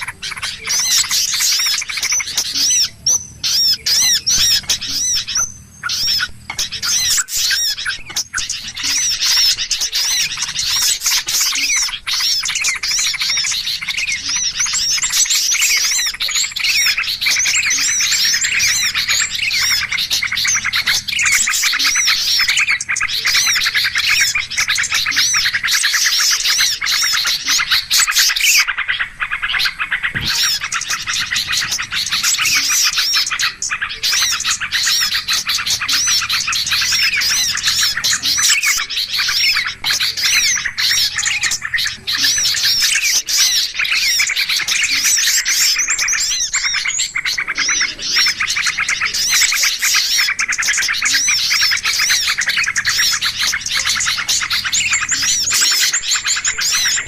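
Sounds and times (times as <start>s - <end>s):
flock of small birds chirping: 0.0s - 57.0s.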